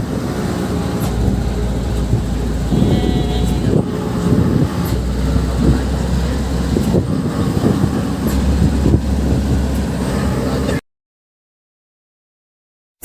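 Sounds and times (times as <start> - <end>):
vehicle rumble: 0.0 - 10.8.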